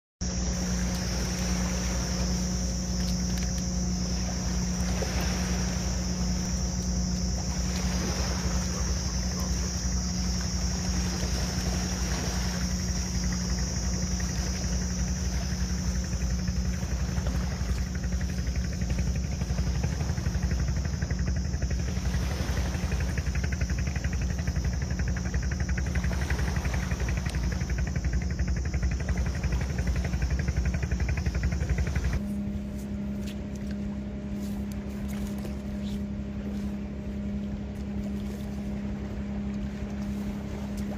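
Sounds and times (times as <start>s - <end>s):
constant high hiss: 0.2s - 40.9s
low motor drone: 0.2s - 40.9s.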